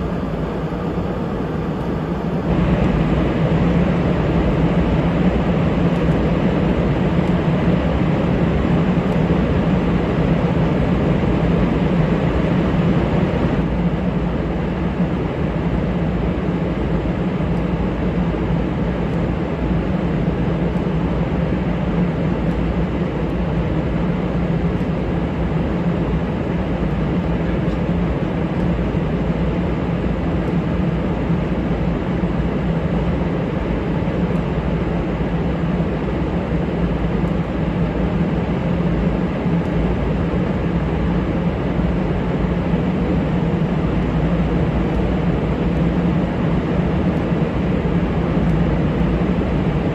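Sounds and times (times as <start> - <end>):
jet engine running: 0.0 - 49.9.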